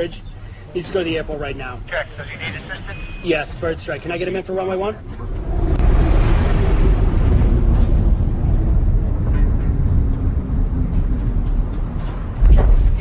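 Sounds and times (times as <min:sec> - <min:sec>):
airliner deep rumble: 0:00.2 - 0:13.0.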